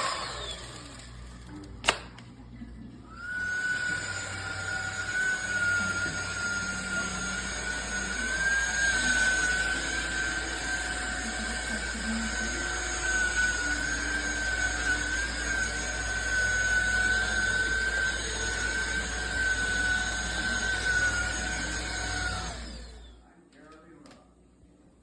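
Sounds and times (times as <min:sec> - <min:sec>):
vacuum motor whine: 0:00.0 - 0:02.1, 0:02.8 - 0:23.8.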